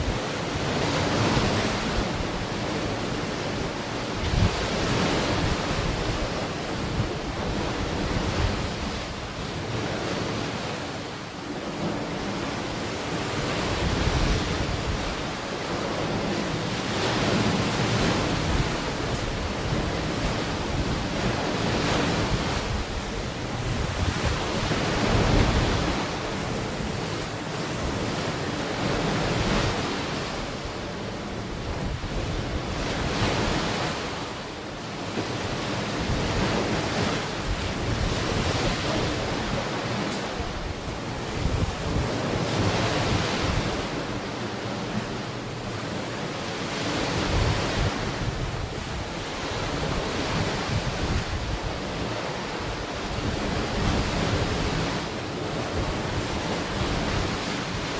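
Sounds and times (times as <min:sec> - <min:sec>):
wind on microphone: 0:00.0 - 0:10.8, 0:11.5 - 0:34.4, 0:35.1 - 0:57.9
ocean waves breaking on beach: 0:00.0 - 0:57.9.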